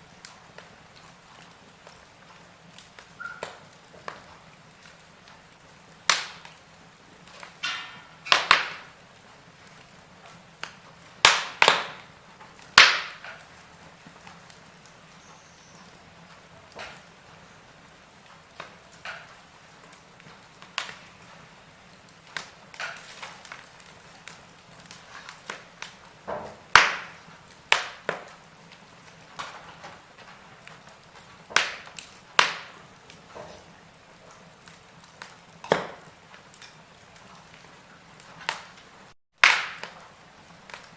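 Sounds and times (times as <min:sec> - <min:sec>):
faint steady hiss: 0:00.0 - 0:40.9
wood fire crackling: 0:00.0 - 0:40.9.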